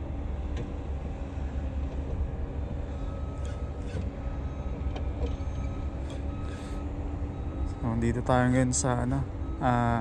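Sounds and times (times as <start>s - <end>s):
engines rumbling: 0.0s - 10.0s.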